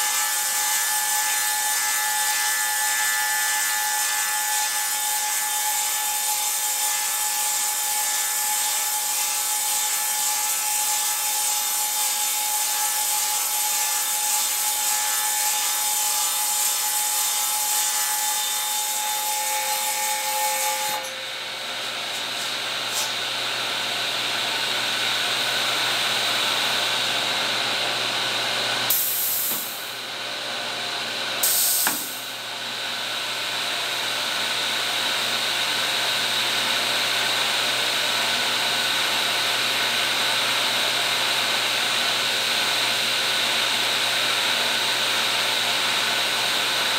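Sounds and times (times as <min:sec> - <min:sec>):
table saw cutting wood: 0:00.0 - 0:46.9.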